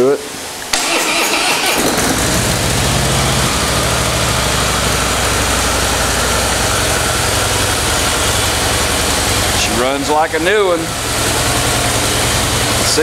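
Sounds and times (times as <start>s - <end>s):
motorcycle engine idling: 1.8s - 13.0s.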